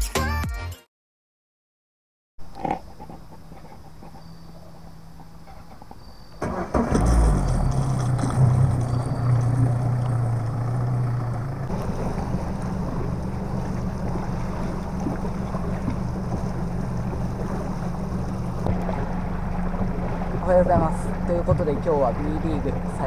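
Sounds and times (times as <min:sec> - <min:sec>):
outboard motor: 0:02.4 - 0:23.0
water noise: 0:02.4 - 0:23.0.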